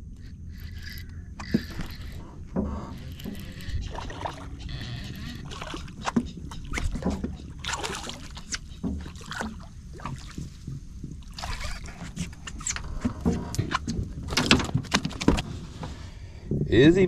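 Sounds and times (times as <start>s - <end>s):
gear knocking and clicking in boat: 0.1s - 17.0s.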